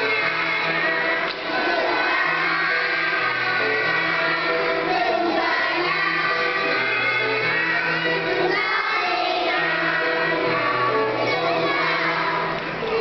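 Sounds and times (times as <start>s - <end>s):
children's choir singing: 0.0s - 13.0s
instrumental accompaniment: 0.0s - 13.0s.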